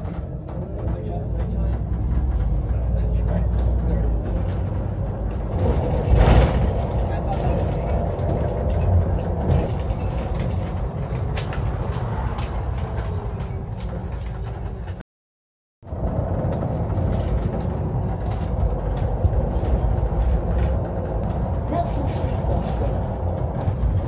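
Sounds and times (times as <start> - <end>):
bus engine and road rumble: 0.0 - 15.0, 15.8 - 24.0.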